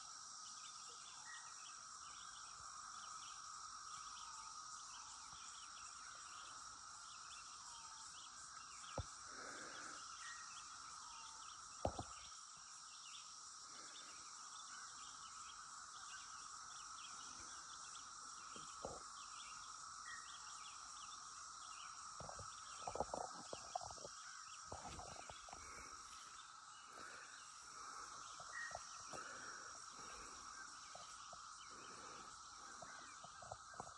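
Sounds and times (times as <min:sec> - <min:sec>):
cicadas droning: 0:00.0 - 0:33.9.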